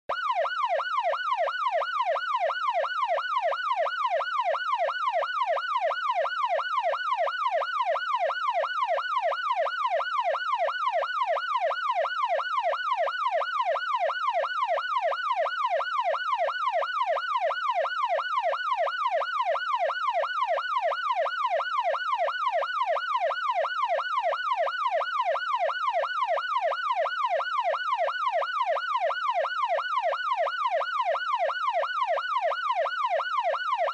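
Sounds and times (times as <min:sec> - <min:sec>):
police siren yelping: 0:00.1 - 0:33.9.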